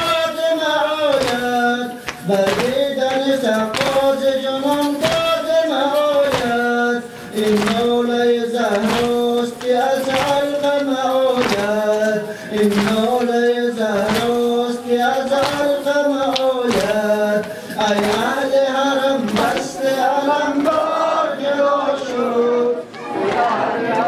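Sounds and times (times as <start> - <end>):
rhythmic sharp strikes: 0.0 - 22.6
men chanting a lament: 0.0 - 24.0.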